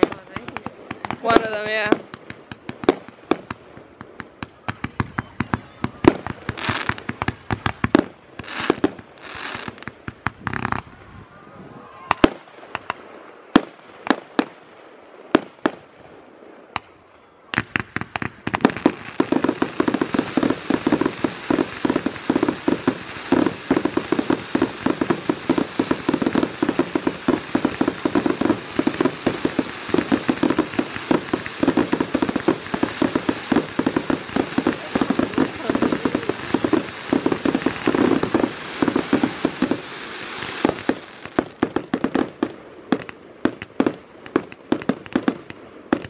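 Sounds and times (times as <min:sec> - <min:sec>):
firework bangs: 0:00.0 - 0:14.7, 0:15.3 - 0:46.0
fireworks crackling and popping: 0:00.0 - 0:46.0.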